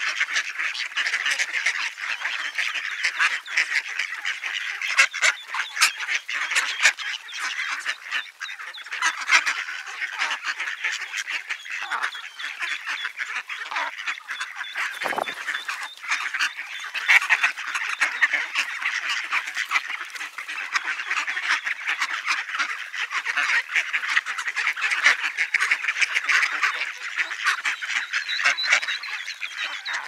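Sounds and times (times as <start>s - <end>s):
ducks quacking: 0.0s - 30.0s.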